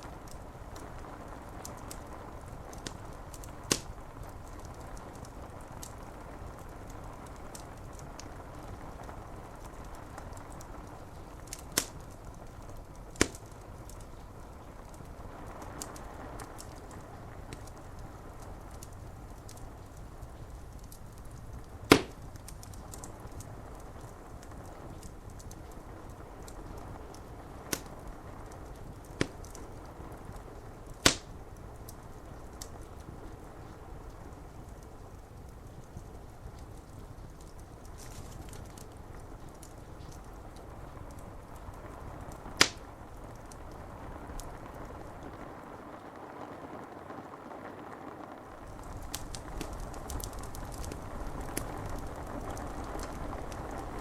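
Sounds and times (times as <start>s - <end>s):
fire crackling and popping: 0.0s - 54.0s
rain on window glass: 0.0s - 54.0s.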